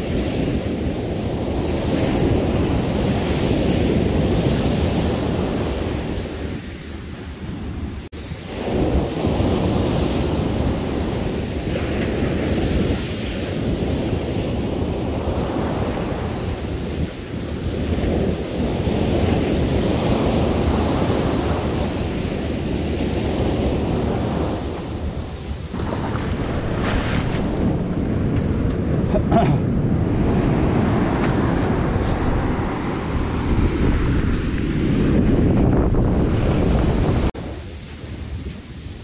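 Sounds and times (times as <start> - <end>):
ocean surf breaking on beach: 0.0 - 39.0
wind buffeting microphone: 0.0 - 39.0.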